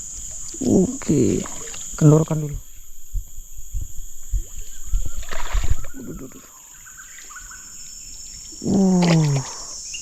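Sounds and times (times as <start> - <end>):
crickets droning: 0.0 - 10.0.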